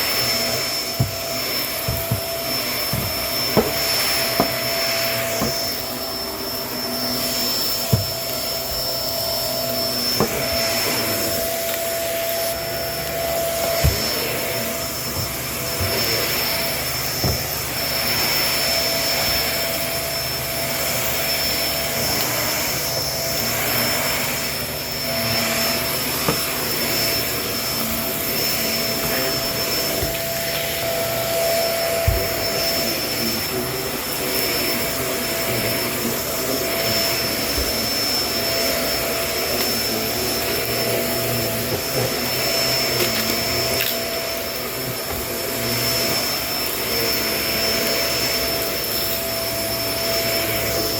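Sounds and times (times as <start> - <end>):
vacuum cleaner whining: 0.0 - 50.9.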